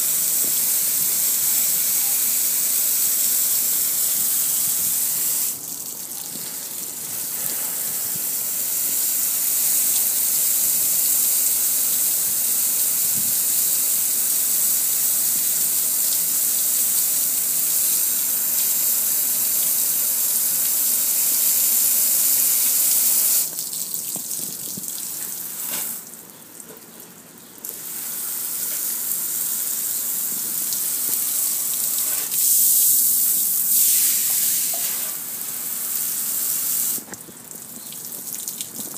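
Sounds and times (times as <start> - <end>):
water jet spraying on metal grill: 0.0 - 26.1, 27.7 - 37.1.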